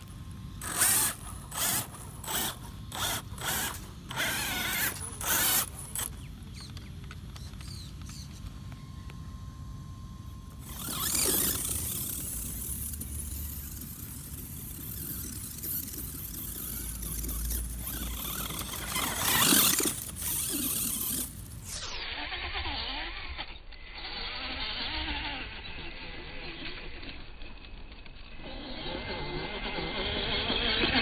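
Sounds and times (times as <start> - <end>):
rc buggy spraying sand: 0.0 - 6.6, 10.6 - 27.5, 28.3 - 31.0.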